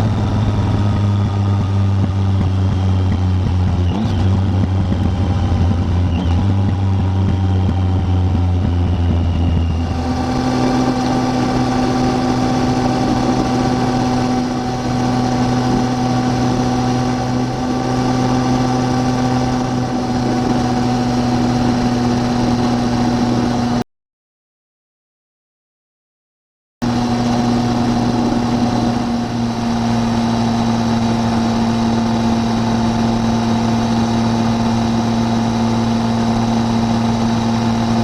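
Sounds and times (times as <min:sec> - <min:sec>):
motorcycle engine running: 0:00.0 - 0:23.8, 0:26.8 - 0:38.0.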